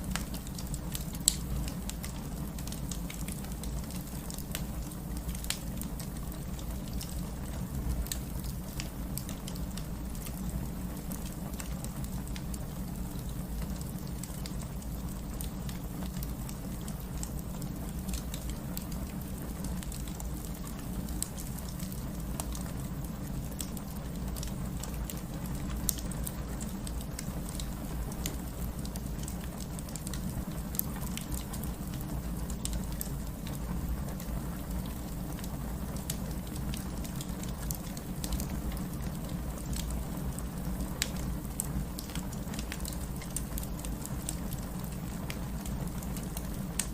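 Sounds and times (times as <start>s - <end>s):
steady rain: 0.0s - 46.9s
wood fire crackling: 0.0s - 46.9s.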